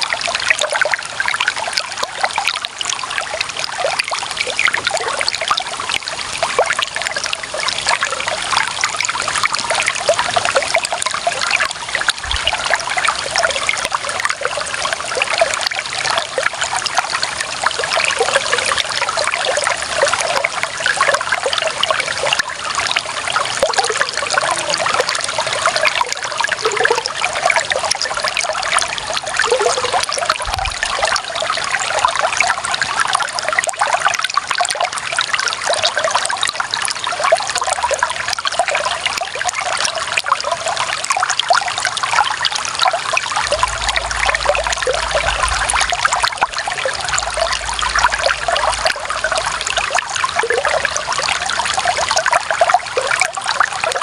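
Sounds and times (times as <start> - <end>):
water running and trickling: 0.0 - 54.0.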